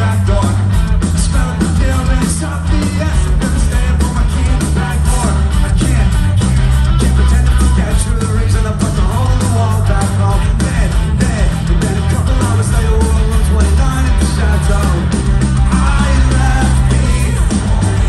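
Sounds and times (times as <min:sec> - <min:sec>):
crowd voices: 0:00.0 - 0:18.0
rock band through pa: 0:00.0 - 0:18.0.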